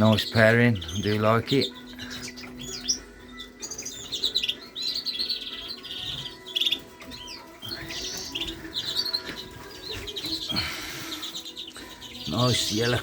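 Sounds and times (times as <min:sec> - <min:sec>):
cage birds chirping and twittering: 0:00.0 - 0:13.0.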